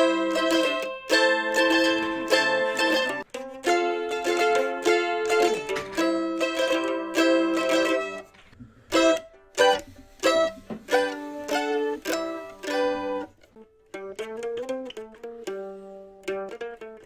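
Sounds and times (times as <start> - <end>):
mandolin strumming and picking: 0.0 - 17.0.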